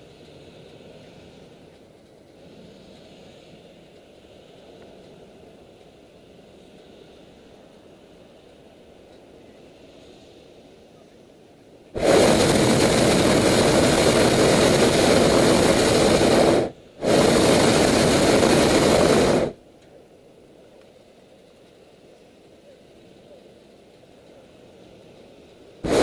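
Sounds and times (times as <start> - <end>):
propane burner blasts: 0.0 - 26.0.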